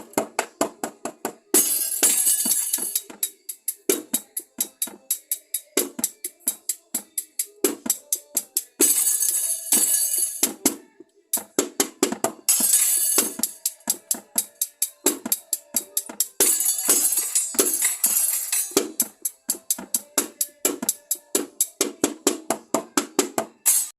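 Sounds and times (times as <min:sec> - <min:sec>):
drum kit playing: 0:00.0 - 0:10.8, 0:11.4 - 0:23.9
recorded song: 0:00.0 - 0:23.9.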